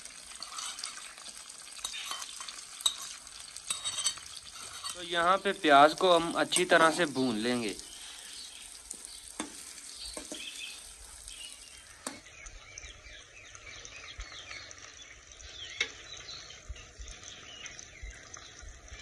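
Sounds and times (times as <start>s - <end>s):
onions sizzling in a pan: 0.0s - 19.0s
faint birds chirping: 3.7s - 19.0s.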